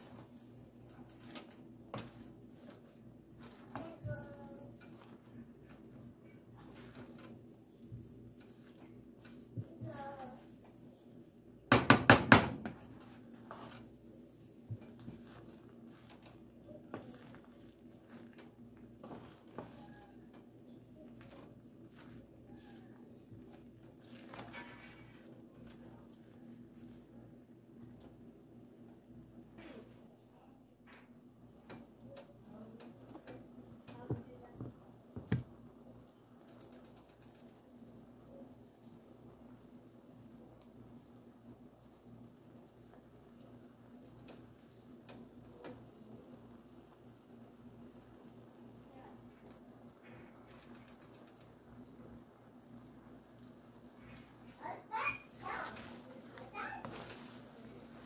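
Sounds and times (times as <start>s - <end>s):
wooden spoon stirring rice in pan: 0.0s - 11.6s, 12.6s - 29.4s, 31.1s - 58.0s.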